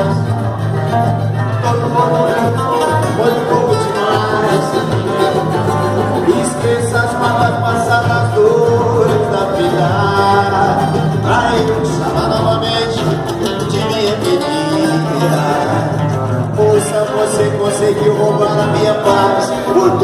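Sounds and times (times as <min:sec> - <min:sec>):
band playing romantic song: 0:00.0 - 0:20.0.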